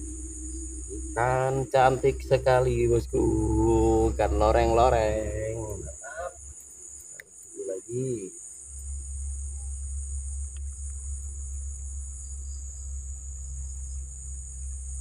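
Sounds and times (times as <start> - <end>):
low rumble: 0.0 - 6.6, 8.8 - 15.0
high-pitched insect chorus: 0.0 - 15.0.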